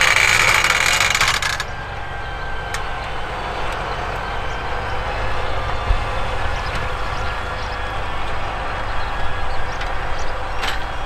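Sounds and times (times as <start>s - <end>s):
high whine: 0.0s - 11.0s
loud rattling: 0.0s - 11.0s
tractor engine drone: 0.0s - 11.0s.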